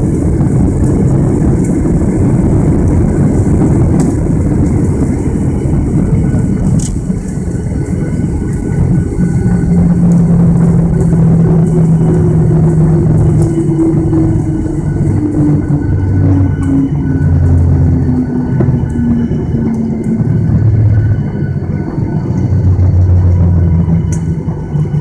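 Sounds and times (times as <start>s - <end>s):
jet engines in reverse thrust: 0.0s - 25.0s
steady low hum: 0.0s - 25.0s
wheels rumbling on runway: 0.0s - 25.0s.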